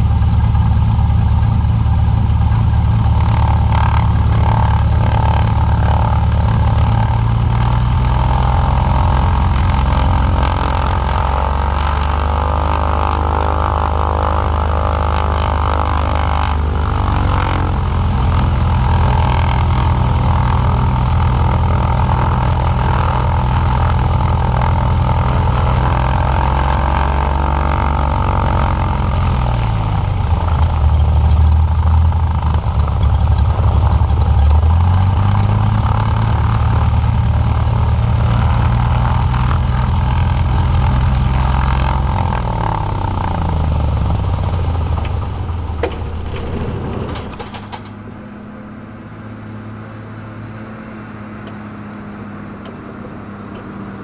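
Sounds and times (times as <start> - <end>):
light aircraft engine and propeller: 0.0 - 54.0.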